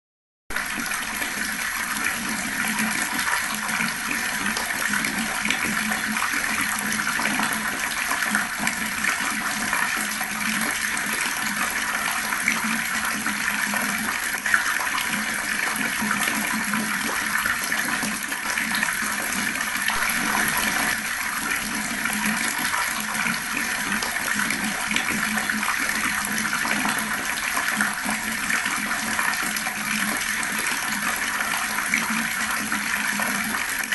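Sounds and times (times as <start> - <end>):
water running from a tap: 0.5 - 33.9.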